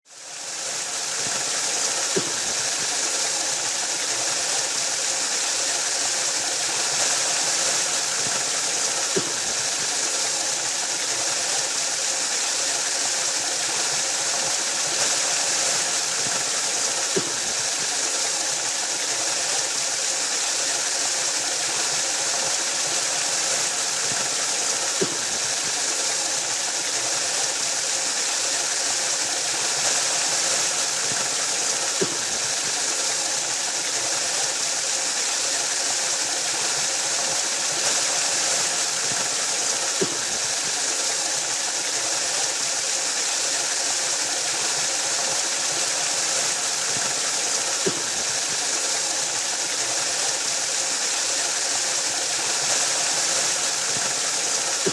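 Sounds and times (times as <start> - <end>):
waterfall roaring: 0.7 - 54.9.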